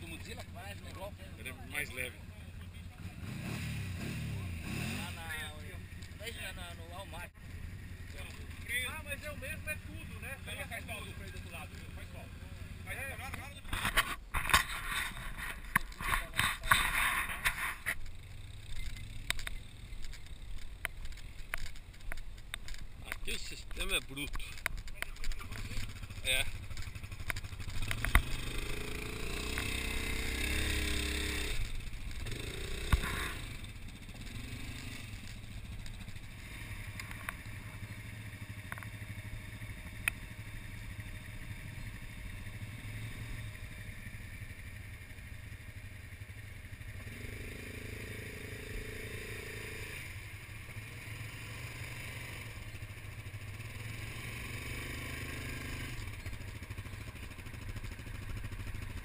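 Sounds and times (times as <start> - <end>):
quad engine droning: 0.0 - 59.0.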